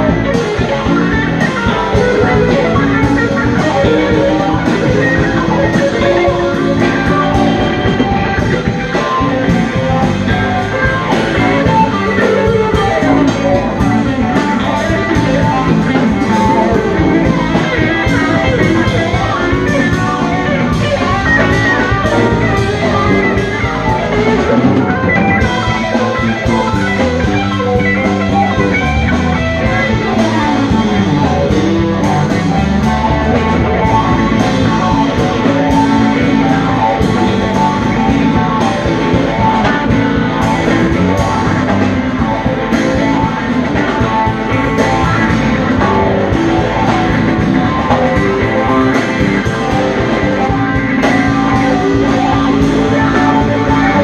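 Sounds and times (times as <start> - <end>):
electric guitar lines: 0.0 - 54.0
funk band playing: 0.0 - 54.0.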